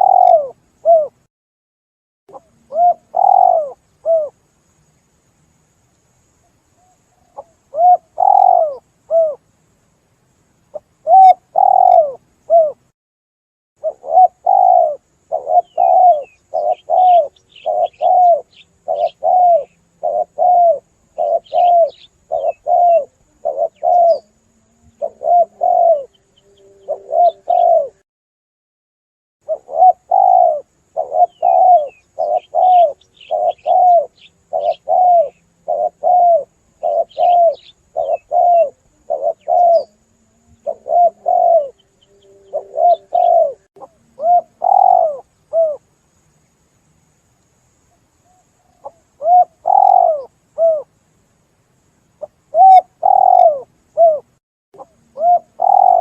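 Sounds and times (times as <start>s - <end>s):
small birds chirping: 0.0s - 1.1s, 2.3s - 5.1s, 5.8s - 9.6s, 10.6s - 12.8s, 13.8s - 28.0s, 29.4s - 45.8s, 47.8s - 50.9s, 52.2s - 54.2s, 54.8s - 56.0s
dove cooing: 0.0s - 1.2s, 2.3s - 4.4s, 6.8s - 9.4s, 10.7s - 12.8s, 13.8s - 28.0s, 29.4s - 45.8s, 48.3s - 50.9s, 52.2s - 56.0s.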